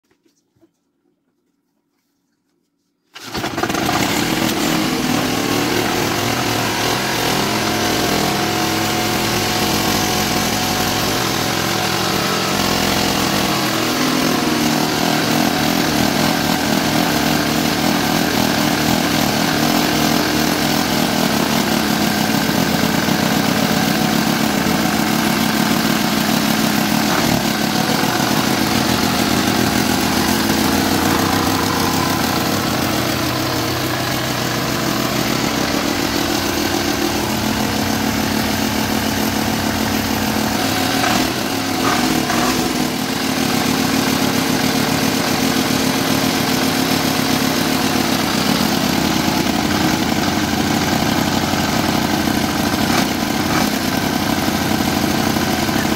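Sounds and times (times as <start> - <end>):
diesel engine knocking: 3.4 - 55.9.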